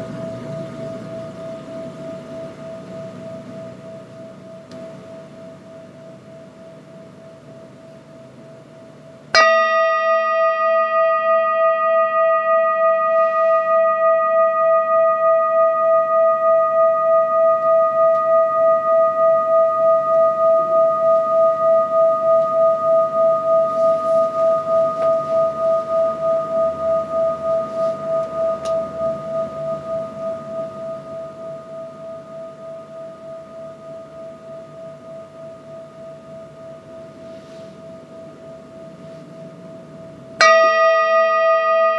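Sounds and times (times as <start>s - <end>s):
metal singing bowl ringing: 0.0s - 41.9s.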